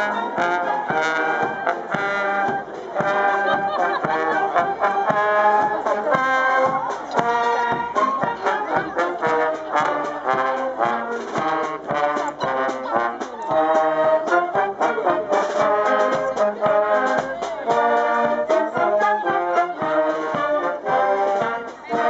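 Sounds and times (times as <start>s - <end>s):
marching band playing: 0.0s - 22.0s
snare and tenor drums beat: 0.0s - 22.0s.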